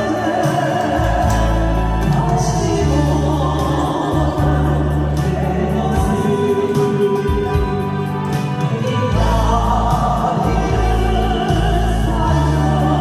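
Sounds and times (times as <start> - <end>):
person singing: 0.0 - 13.0
sustained bass notes: 0.0 - 13.0.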